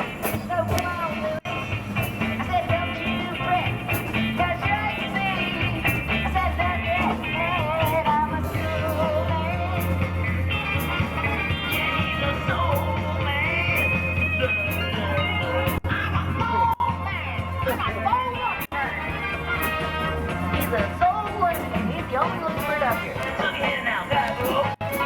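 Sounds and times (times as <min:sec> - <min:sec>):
bass line: 0:00.0 - 0:25.0
person singing: 0:00.0 - 0:25.0
rock and roll song: 0:00.0 - 0:25.0.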